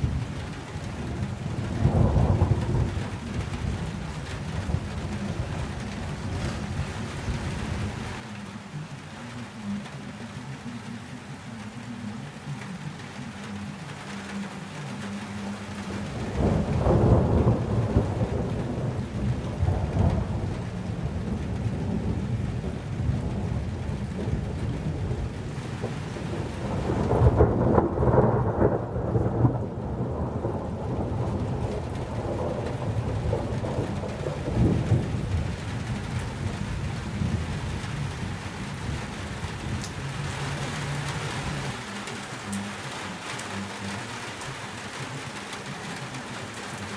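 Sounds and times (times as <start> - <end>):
steady rain: 0.0 - 46.9
thunder rumbling: 0.0 - 46.9.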